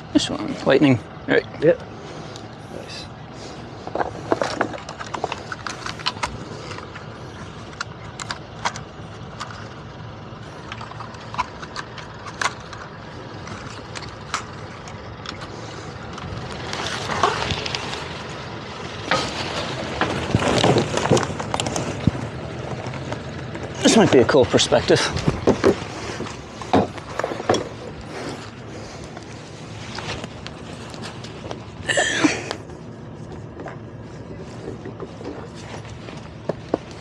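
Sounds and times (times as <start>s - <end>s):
rustling and rummaging of gear: 1.6s - 37.0s.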